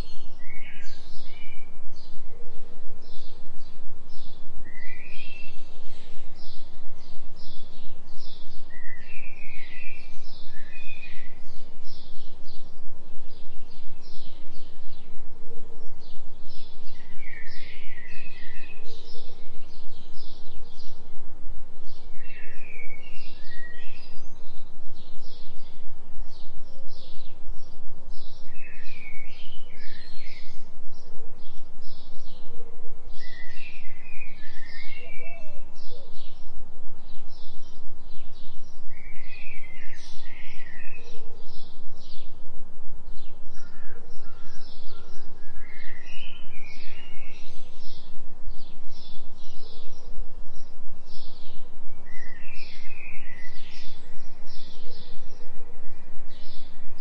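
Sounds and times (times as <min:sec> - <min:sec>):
bird chirping: 0:00.0 - 0:42.5, 0:43.1 - 0:57.0
pulsing low hum: 0:00.0 - 0:57.0.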